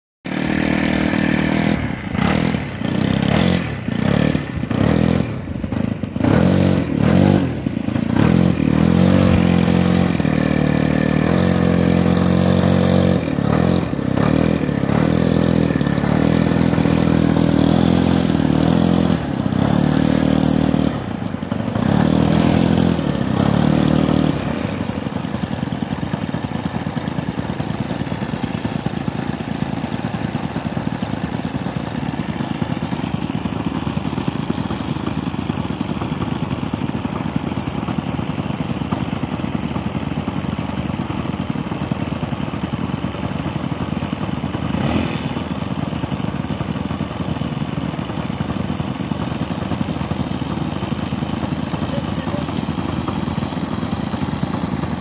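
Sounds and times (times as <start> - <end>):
model aircraft engine revving: 0.3 - 55.0.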